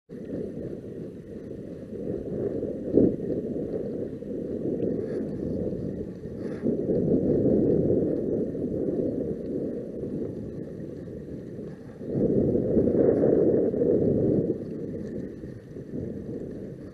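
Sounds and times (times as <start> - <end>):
wind buffeting microphone: 0.1 - 16.9.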